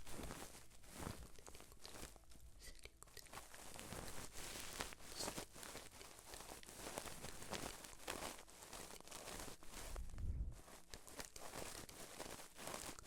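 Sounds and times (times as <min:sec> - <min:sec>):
crunching and crinkling at microphone: 0:00.0 - 0:13.0
small clicks and rustles: 0:00.0 - 0:13.0.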